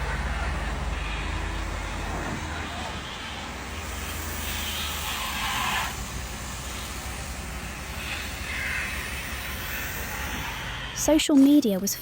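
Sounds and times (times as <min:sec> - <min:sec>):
passing vehicles rushing: 0:00.0 - 0:11.0.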